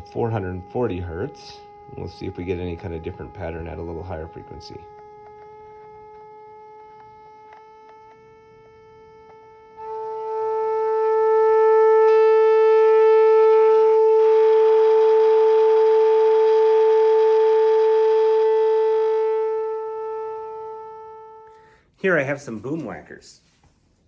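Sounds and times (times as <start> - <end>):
plastic lid buzzing on speaker: 0.0 - 21.6
loudspeaker steady tone: 0.0 - 21.8.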